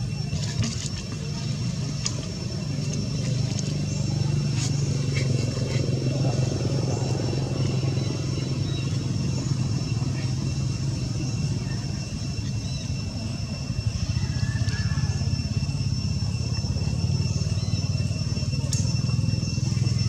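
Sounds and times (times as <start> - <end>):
low pulsing engine rumble: 0.0 - 20.0.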